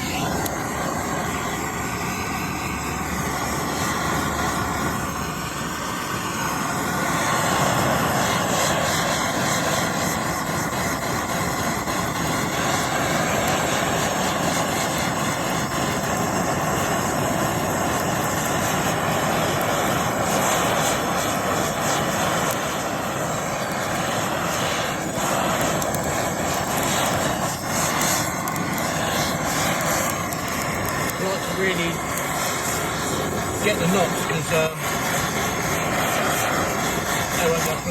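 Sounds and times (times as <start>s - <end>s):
blowtorch flame hissing: 0.0s - 37.9s.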